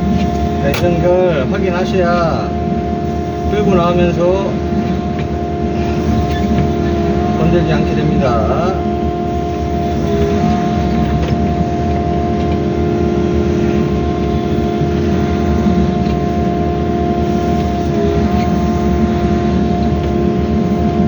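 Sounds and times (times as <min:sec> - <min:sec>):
excavator engine and hydraulics whine: 0:00.0 - 0:21.0.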